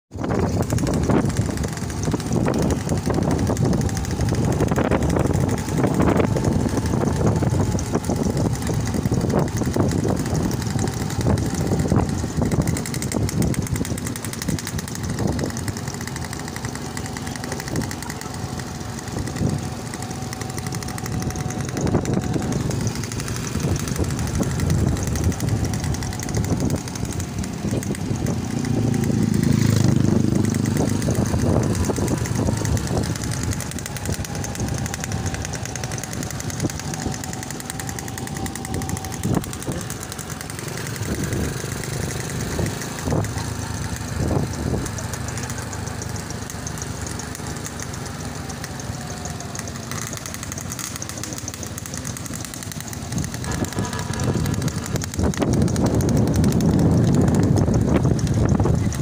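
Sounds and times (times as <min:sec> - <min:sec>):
wind noise on microphone: 0:00.1 - 0:16.2, 0:20.4 - 0:45.2, 0:52.2 - 0:59.0
small motorcycle engines running: 0:00.1 - 0:59.0.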